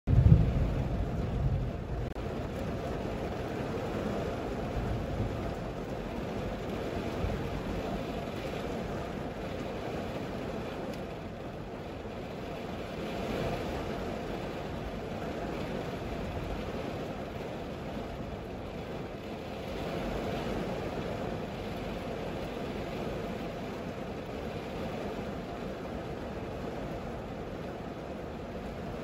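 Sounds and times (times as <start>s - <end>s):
faint rain taps: 0.1s - 29.0s.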